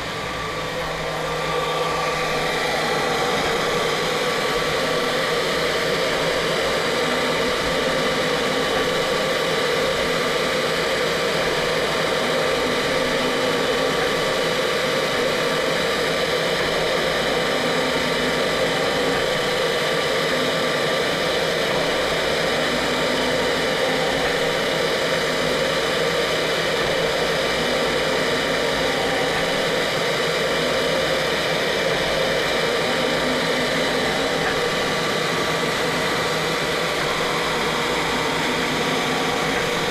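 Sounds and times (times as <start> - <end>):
constant tones: 0.0 - 39.9
machine mechanical whir: 0.0 - 39.9
noisy hiss: 0.0 - 39.9.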